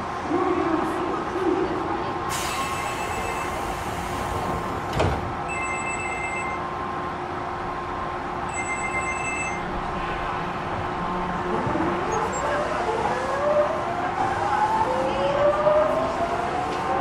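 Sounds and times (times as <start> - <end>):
train car steady hum: 0.0 - 17.0.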